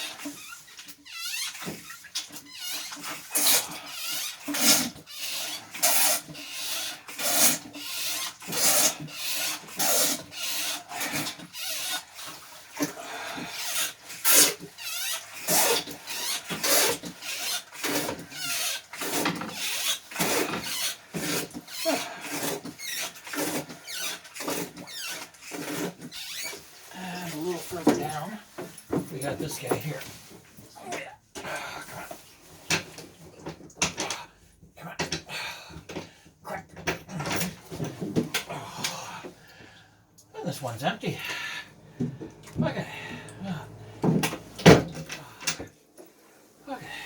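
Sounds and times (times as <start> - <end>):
hand pump rasping strokes: 0.0 - 34.3, 35.2 - 47.0.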